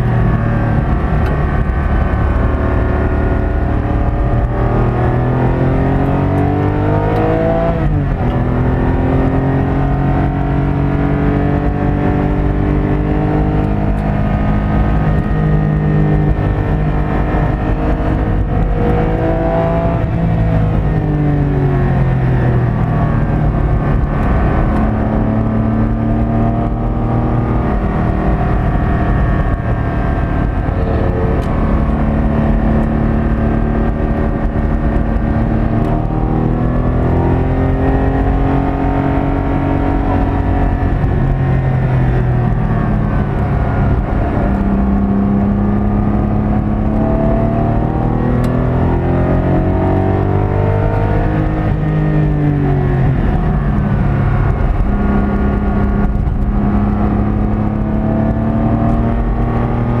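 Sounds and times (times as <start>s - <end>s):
car engine revving: 0.0s - 60.0s
road and tyre noise: 0.0s - 60.0s.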